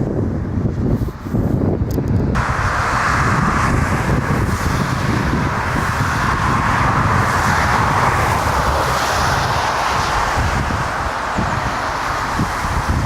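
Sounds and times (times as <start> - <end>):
wind buffeting microphone: 0.0 - 13.0
jet engines roaring: 2.4 - 13.0.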